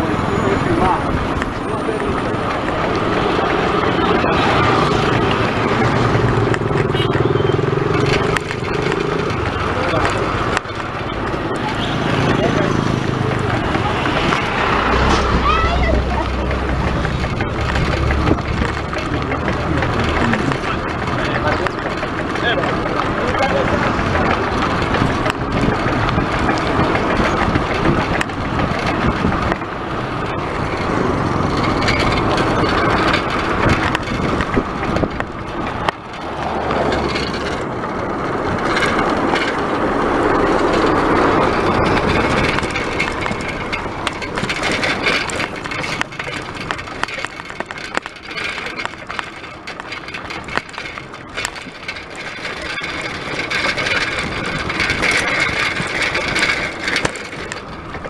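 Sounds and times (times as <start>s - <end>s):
bicycle rattling on rough road: 0.0s - 58.0s
road and wind noise: 0.0s - 58.0s.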